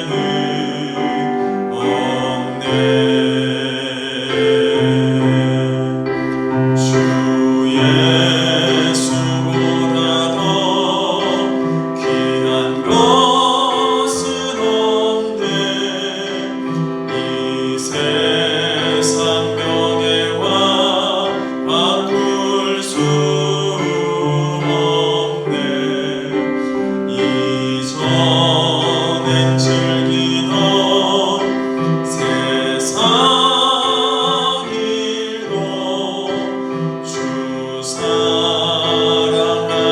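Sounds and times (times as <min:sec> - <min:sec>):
congregation singing a hymn: 0:00.0 - 0:39.9
keyboard accompaniment: 0:00.0 - 0:39.9.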